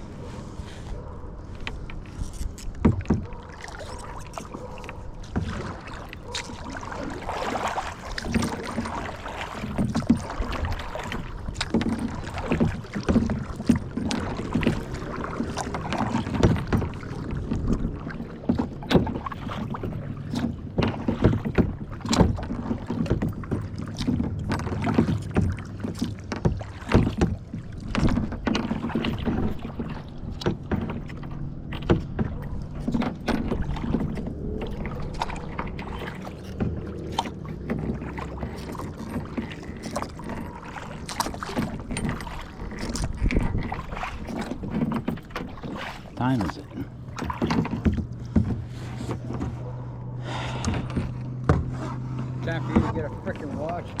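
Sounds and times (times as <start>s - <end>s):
paddle splashing in water: 0.0s - 54.0s
water sloshing against hull: 0.0s - 54.0s.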